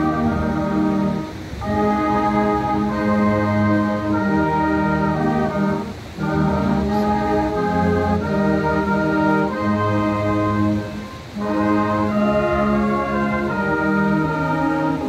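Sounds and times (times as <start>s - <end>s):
brass band playing a hymn: 0.0s - 15.0s.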